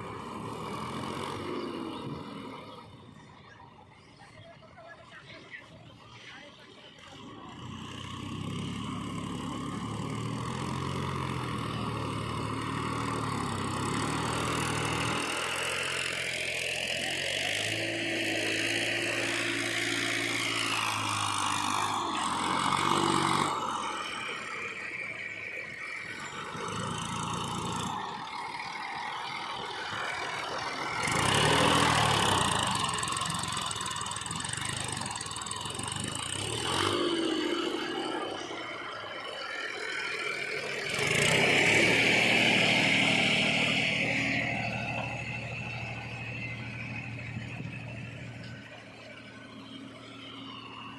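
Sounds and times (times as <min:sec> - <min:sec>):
diesel engines revving: 0:00.0 - 0:50.9.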